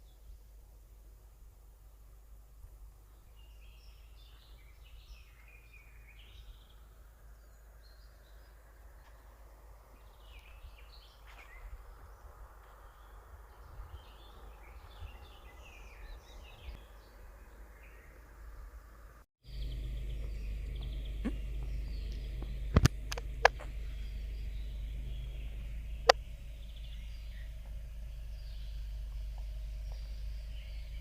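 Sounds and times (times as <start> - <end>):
songbirds twittering: 0.0 - 31.0
steady low rumble: 0.0 - 31.0.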